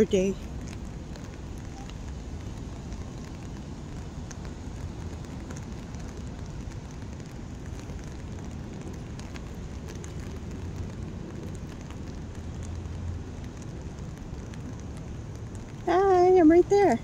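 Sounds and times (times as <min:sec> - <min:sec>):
faint rain ticks: 0:00.0 - 0:17.0
low city rumble: 0:00.0 - 0:17.0
rain hiss: 0:00.0 - 0:17.0.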